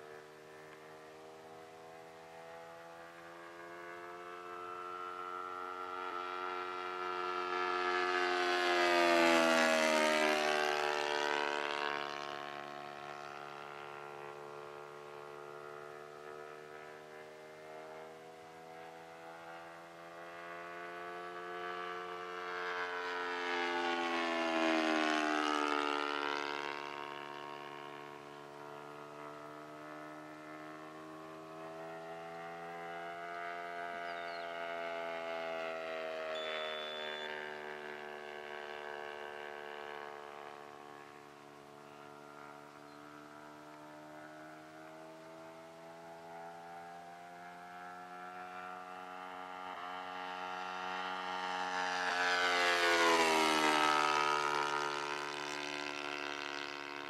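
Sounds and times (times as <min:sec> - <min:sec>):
model airplane engine flying by: 0:00.0 - 0:57.0.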